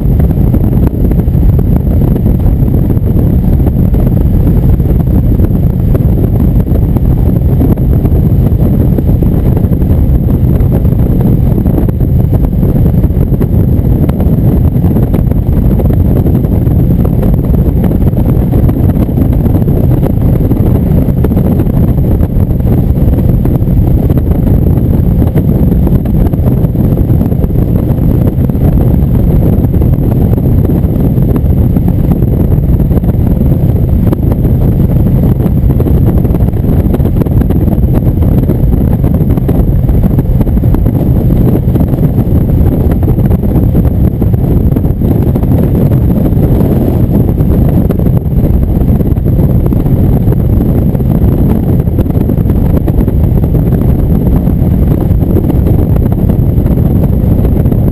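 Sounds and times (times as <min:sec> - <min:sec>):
motorcycle engine rumble: 0:00.0 - 0:57.9
wind buffeting microphone: 0:00.0 - 0:57.9.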